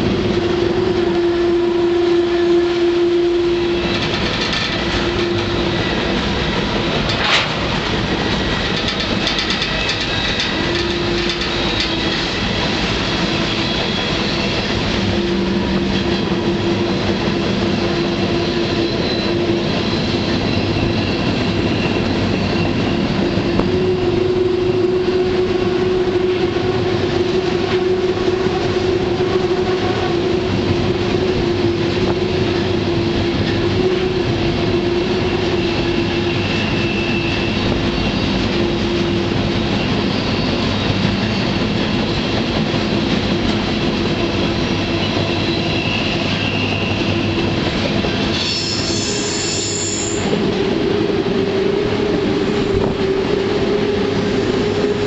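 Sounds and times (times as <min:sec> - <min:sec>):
humming tone: 0:00.0 - 0:55.0
train cars rumbling on rails: 0:00.0 - 0:55.0.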